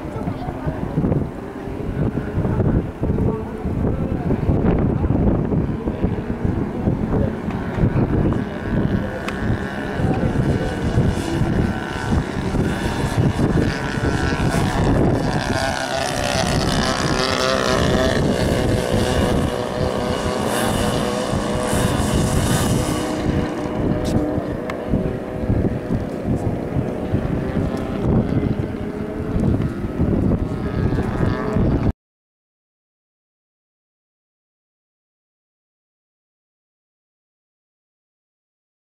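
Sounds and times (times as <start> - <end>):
distant model plane engine: 0.0 - 31.9
wind buffeting microphone: 0.0 - 31.9.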